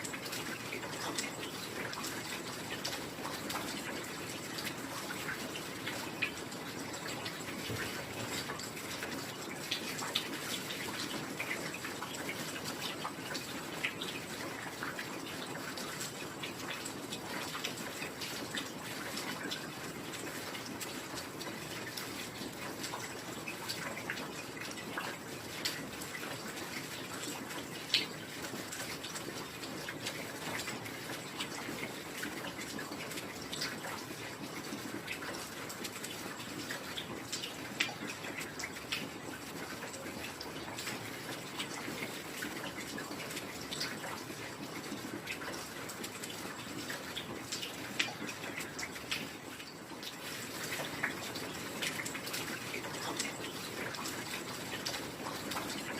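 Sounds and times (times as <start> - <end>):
heavy rain: 0.0 - 55.9.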